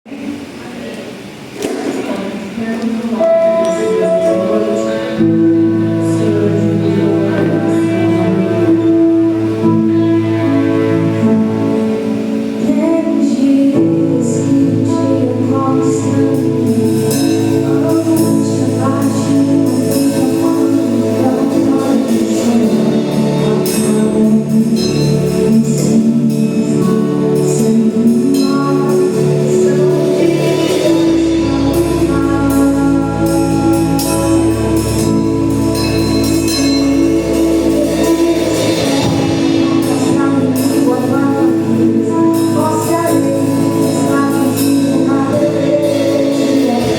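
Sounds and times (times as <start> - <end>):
gospel singing with instruments: 0.1 - 46.9.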